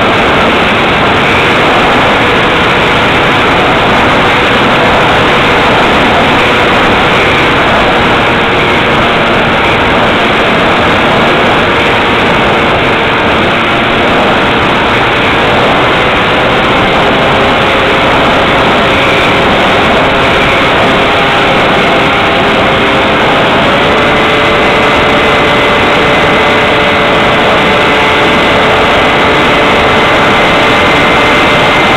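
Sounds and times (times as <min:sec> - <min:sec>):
electric motor and propeller whine: 0:00.0 - 0:31.9
wind rushing over camera: 0:00.0 - 0:31.9.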